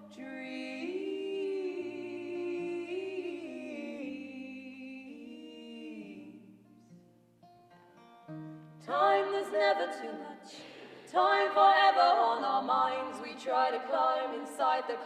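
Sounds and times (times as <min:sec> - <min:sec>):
long wordless sung notes: 0:00.0 - 0:06.9, 0:08.8 - 0:15.0.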